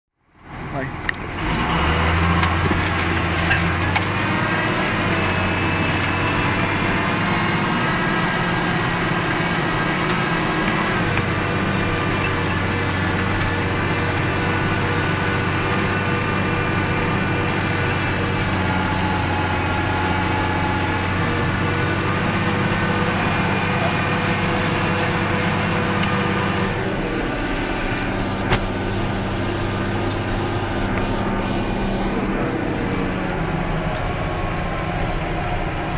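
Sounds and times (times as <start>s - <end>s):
tractor engine under load: 0.2s - 35.9s.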